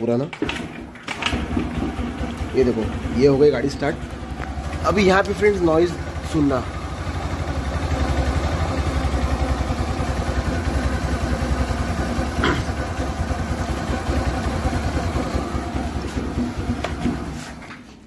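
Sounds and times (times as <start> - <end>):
scooter engine idling: 0.7 - 17.7.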